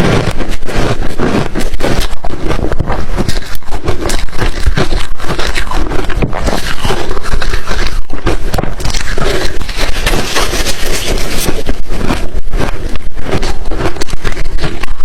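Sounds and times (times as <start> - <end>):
ice being crunched and chewed: 0.0 - 15.0.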